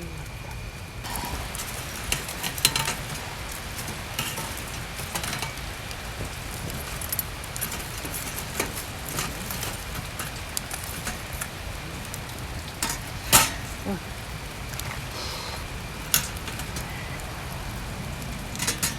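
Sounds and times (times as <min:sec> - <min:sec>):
steady rain: 0:00.0 - 0:18.9
small items clicking and knocking: 0:01.0 - 0:18.9.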